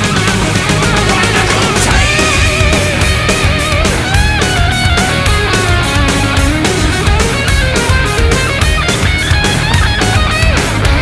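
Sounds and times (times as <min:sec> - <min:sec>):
heavy rock music with guitar: 0:00.0 - 0:11.0.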